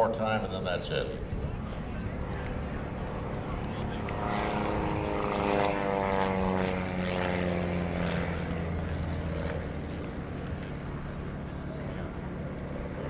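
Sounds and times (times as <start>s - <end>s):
light plane flying overhead: 0.0s - 13.0s.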